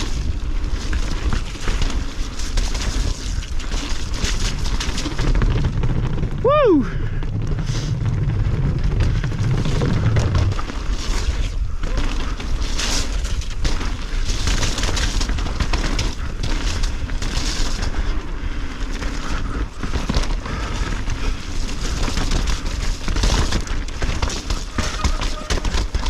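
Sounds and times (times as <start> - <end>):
bike chain and frame clattering: 0.0 - 26.0
bike tyres on dirt and roots: 0.0 - 26.0.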